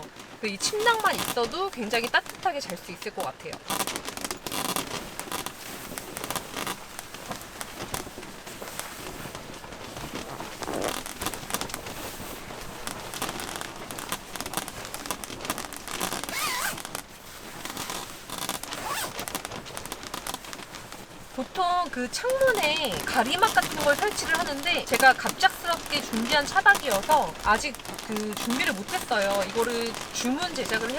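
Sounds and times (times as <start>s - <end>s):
fabric rustling and crinkling: 0.0s - 30.9s
zipper being worked: 0.0s - 30.9s.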